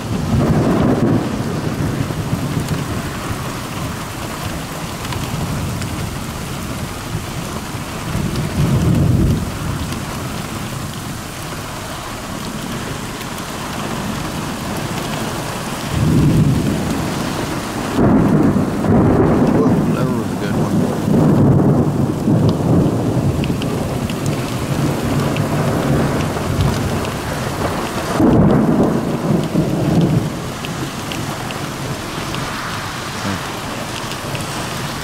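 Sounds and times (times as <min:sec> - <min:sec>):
heavy rain: 0:00.0 - 0:35.0
rolling thunder: 0:00.0 - 0:35.0.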